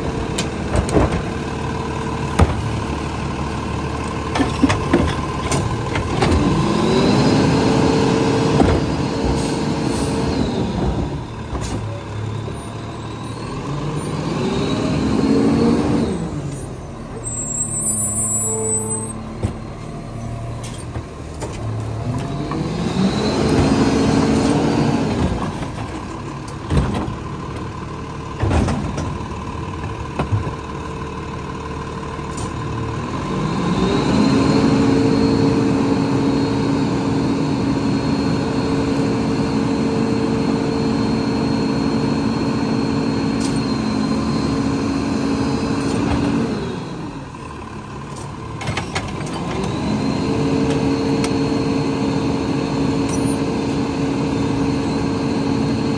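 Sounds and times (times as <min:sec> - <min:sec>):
truck engine idling and revving: 0:00.0 - 0:55.9.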